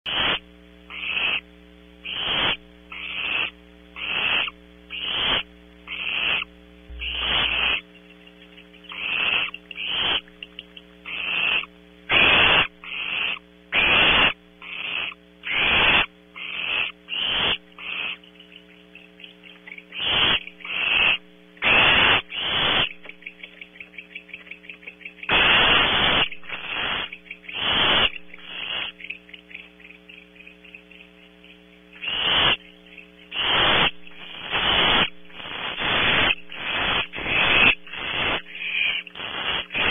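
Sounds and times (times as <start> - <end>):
owl chittering notes: 0.1 - 1.4, 2.0 - 39.9
steady electrical hum: 0.1 - 39.9.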